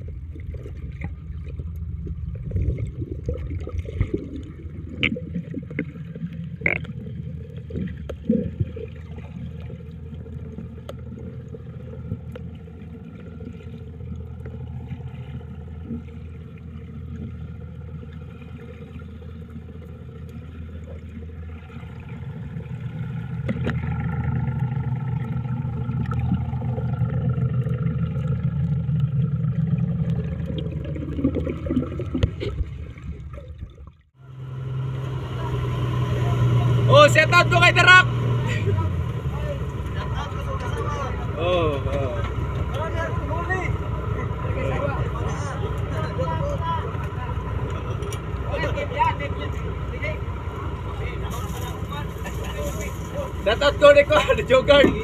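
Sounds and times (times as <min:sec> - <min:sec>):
boat engine drone underwater: 0:00.0 - 0:55.0
water washing underwater: 0:00.0 - 0:55.0.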